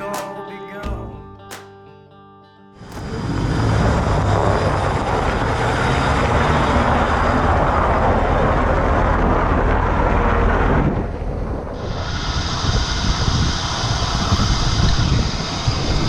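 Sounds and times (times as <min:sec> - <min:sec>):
low engine drone: 0:02.8 - 0:16.0.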